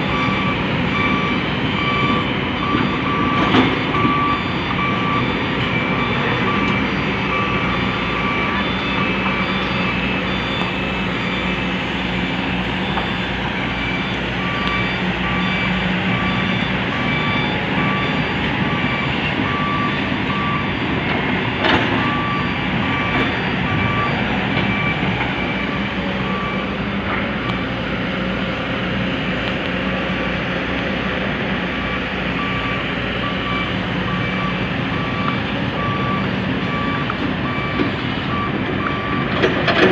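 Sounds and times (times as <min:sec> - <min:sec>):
reversing alarm beeping: 0:00.0 - 0:29.4, 0:30.0 - 0:39.9
diesel truck engine running: 0:00.0 - 0:39.9.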